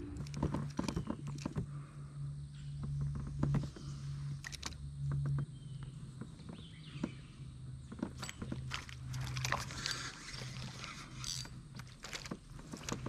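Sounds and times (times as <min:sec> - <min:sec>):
light clicks and knocks: 0:00.0 - 0:01.9, 0:02.7 - 0:13.0
steady low hum: 0:00.0 - 0:13.0.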